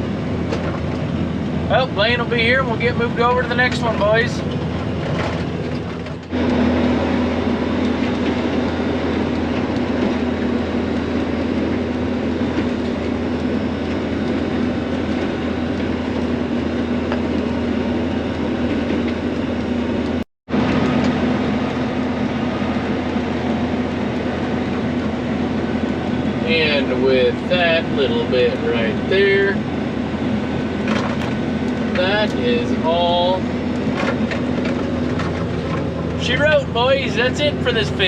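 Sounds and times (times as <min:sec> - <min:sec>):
machine drone: 0:00.0 - 0:38.0.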